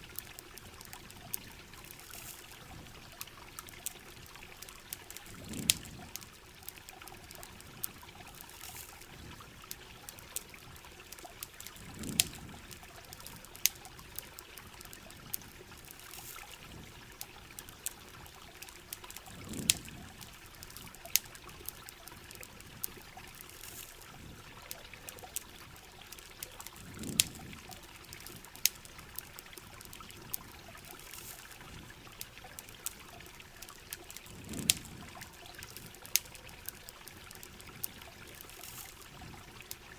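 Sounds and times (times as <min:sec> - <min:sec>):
campfire crackling: 0:00.0 - 0:39.9
trickle of running water: 0:00.0 - 0:39.9.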